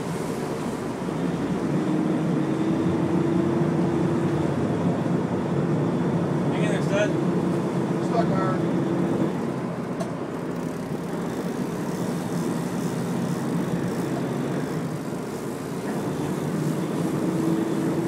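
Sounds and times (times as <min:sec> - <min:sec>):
boat engine droning: 0:00.0 - 0:18.0
water noise: 0:00.0 - 0:18.0
wind: 0:00.0 - 0:18.0.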